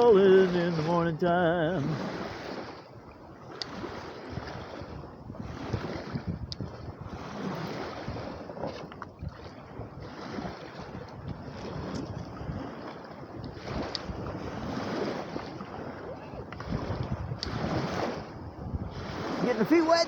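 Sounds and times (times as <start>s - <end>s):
waves washing against shore: 0.0s - 20.0s
wind buffeting microphone: 0.0s - 20.0s.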